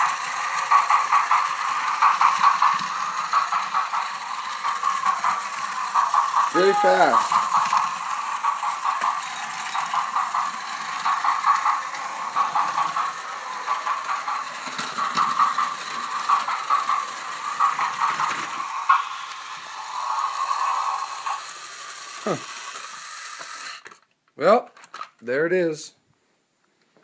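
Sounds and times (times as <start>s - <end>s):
toy train motor whirring and rattling: 0.0s - 24.1s, 24.7s - 25.2s.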